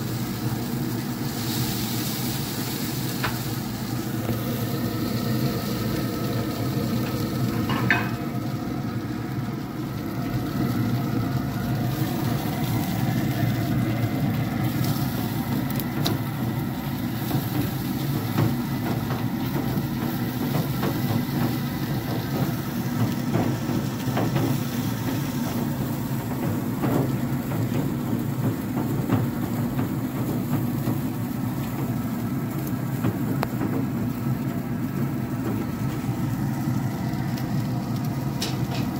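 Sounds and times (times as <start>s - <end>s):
pellet grill humming: 0.0s - 38.9s.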